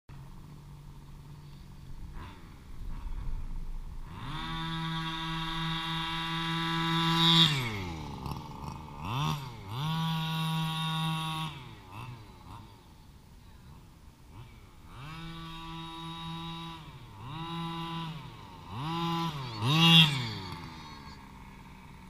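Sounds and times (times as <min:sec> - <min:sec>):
rc car engine revving: 0:00.3 - 0:22.0.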